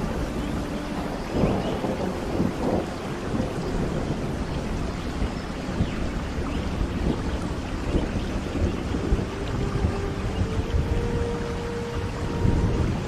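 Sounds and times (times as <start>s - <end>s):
low rumble of thunder: 0.0s - 13.0s
rain falling: 0.0s - 13.0s.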